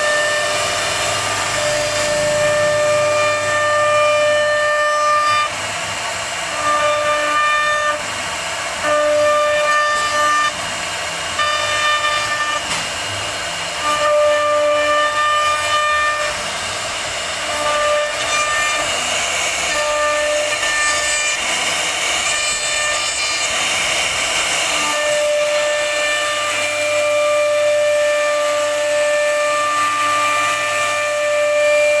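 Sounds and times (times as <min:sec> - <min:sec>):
hiss of wood cutting: 0:00.0 - 0:32.0
router spindle whining: 0:00.0 - 0:32.0.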